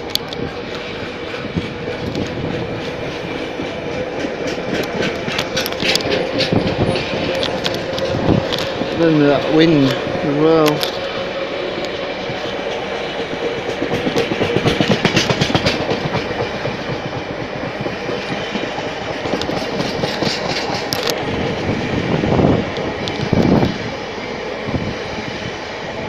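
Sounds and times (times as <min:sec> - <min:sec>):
freight train rumbling past: 0:00.0 - 0:26.0
wheels clickety-clack on rail joints: 0:00.0 - 0:26.0.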